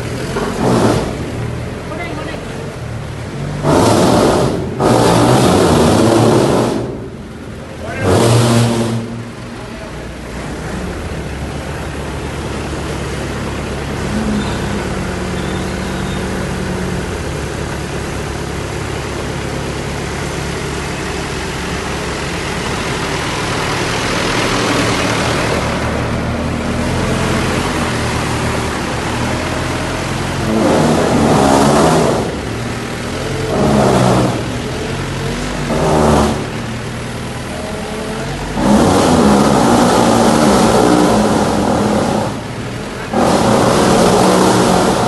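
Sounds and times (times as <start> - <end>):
diesel engine running and revving: 0.0 - 45.0.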